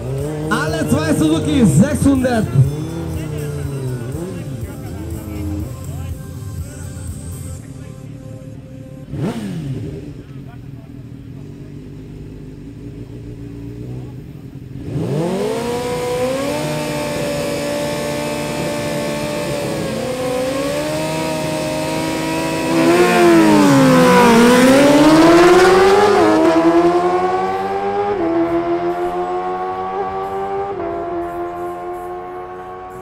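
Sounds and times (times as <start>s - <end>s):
sport bikes revving: 0.0s - 33.0s.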